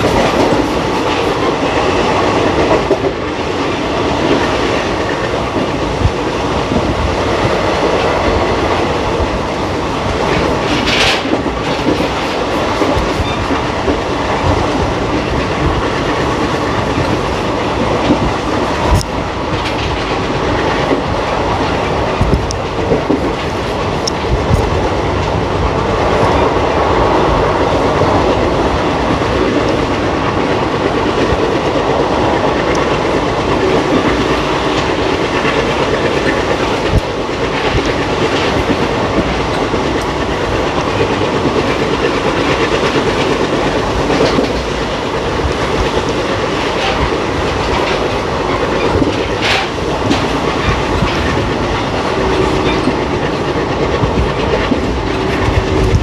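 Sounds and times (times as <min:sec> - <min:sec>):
clickety-clack of rail joints: 0:00.0 - 0:56.0
train wheels rumbling on track: 0:00.0 - 0:56.0.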